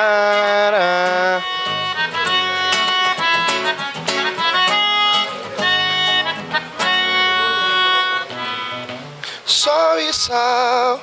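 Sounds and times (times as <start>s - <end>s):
reedy accordion-like tone: 0.0s - 9.2s
live band playing chords: 0.0s - 9.4s.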